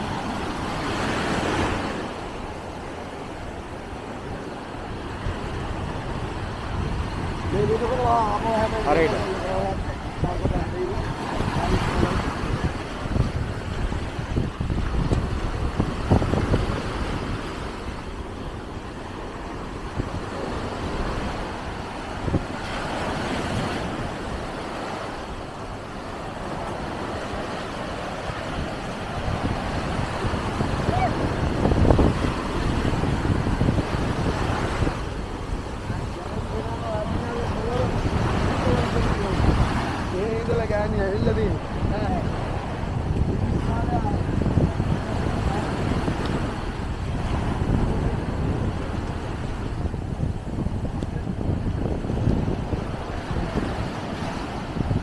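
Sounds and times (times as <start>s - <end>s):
low surf rumble: 0.0s - 55.0s
waves breaking in shallow water: 0.0s - 55.0s
wind on microphone: 0.0s - 55.0s.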